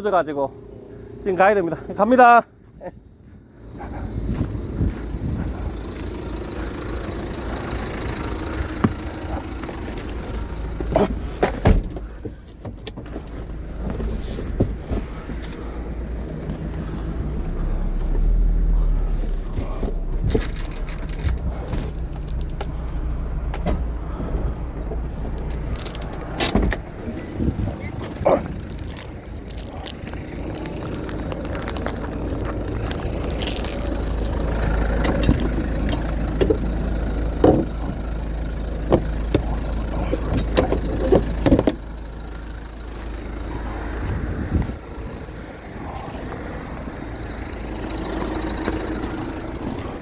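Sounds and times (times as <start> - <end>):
road rumble: 0.0 - 50.0
car engine running: 0.2 - 50.0.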